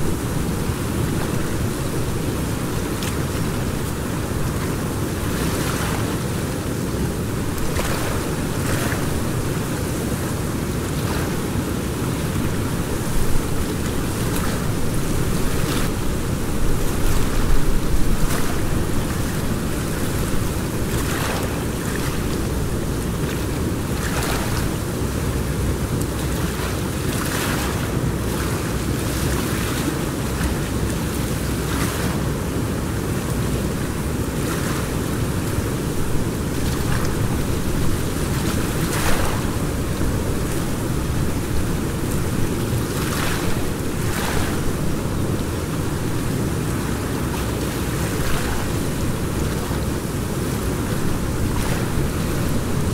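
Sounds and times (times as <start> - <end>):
river water rushing: 0.0 - 52.9
wind on microphone: 0.0 - 52.9.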